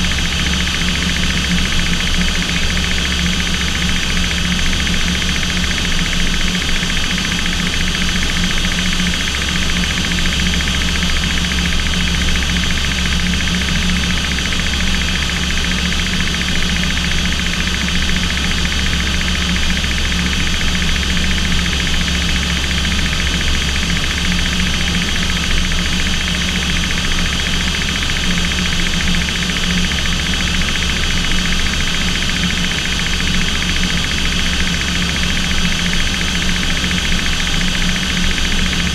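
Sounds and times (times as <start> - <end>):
aircraft engines droning: 0.0 - 38.9.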